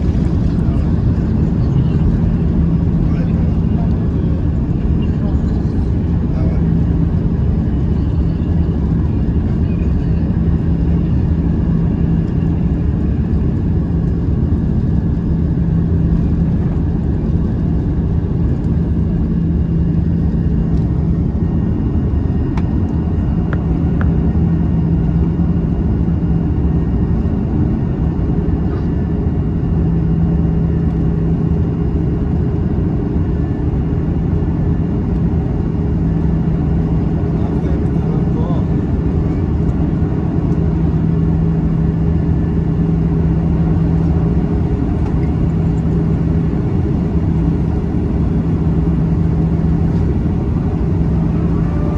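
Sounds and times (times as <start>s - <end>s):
jet airliner taking off: 0.0s - 26.0s, 26.6s - 51.9s.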